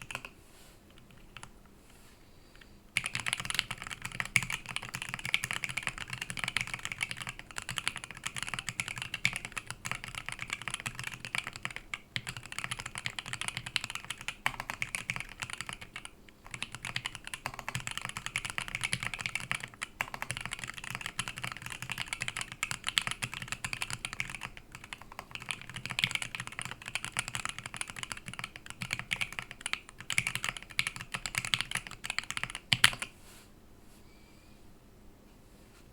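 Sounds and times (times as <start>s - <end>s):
mechanical keyboard typing: 0.0s - 0.3s, 1.0s - 1.5s, 3.0s - 33.1s.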